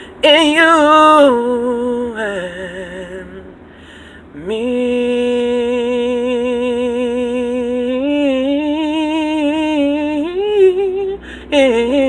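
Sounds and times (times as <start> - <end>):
man singing unaccompanied: 0.0 - 3.6, 4.3 - 12.0.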